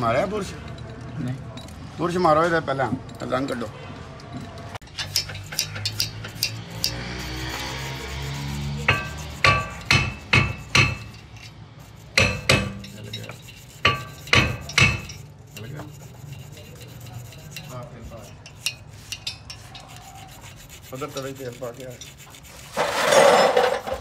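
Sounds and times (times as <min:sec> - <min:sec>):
metal tool clinking on hub: 0:00.0 - 0:07.8, 0:08.8 - 0:22.4
metal scraping: 0:04.4 - 0:24.0.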